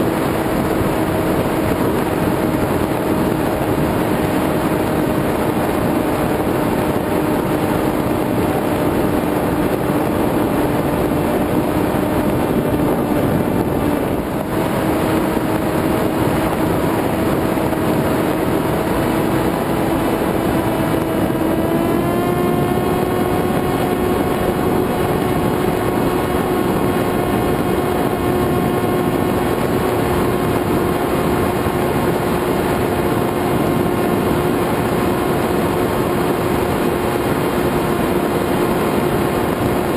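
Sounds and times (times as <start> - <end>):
electric motor and propeller whine: 0.0 - 39.9
rushing wind: 0.0 - 39.9.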